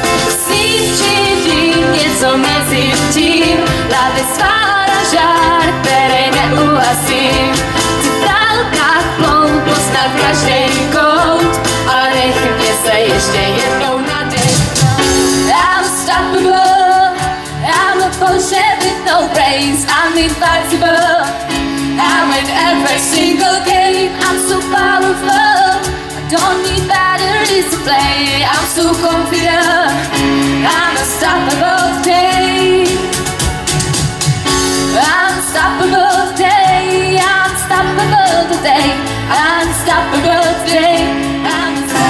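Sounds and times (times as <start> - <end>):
woman singing into a microphone: 0.0 - 33.4, 34.7 - 42.0
keyboard chords: 0.0 - 42.0.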